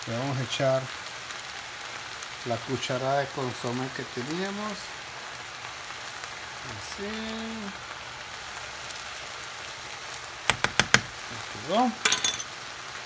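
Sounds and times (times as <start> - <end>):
vegetables sizzling in a skillet: 0.0 - 13.0.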